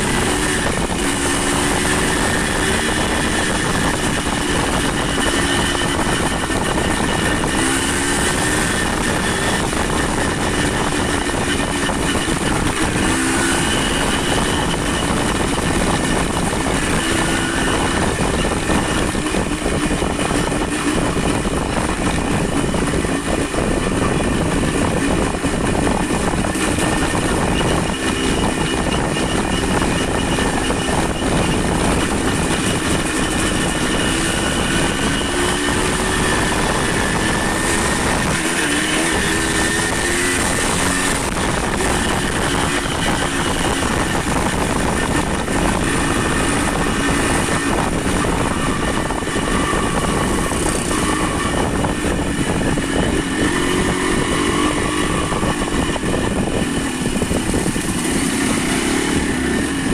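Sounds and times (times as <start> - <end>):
road rushing noise: 0.0 - 59.9
vehicle engine hum: 0.0 - 59.9.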